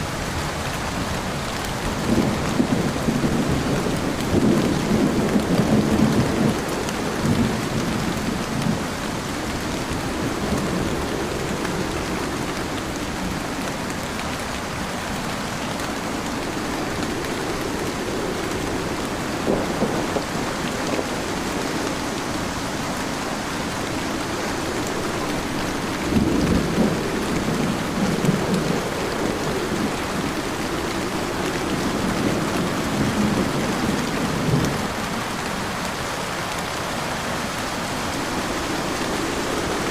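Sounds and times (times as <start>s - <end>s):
heavy rain pouring: 0.0s - 39.9s
thunder rumbling: 0.1s - 39.9s.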